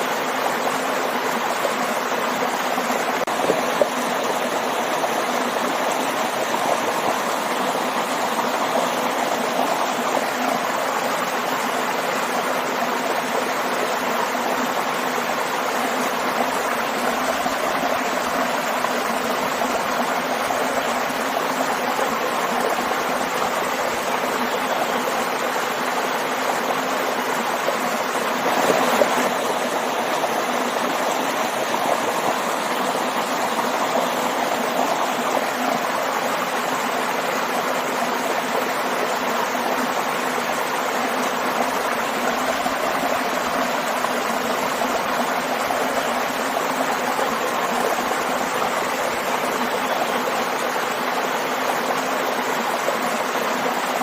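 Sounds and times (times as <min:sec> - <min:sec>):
stream and waterfall rushing: 0:00.0 - 0:54.0.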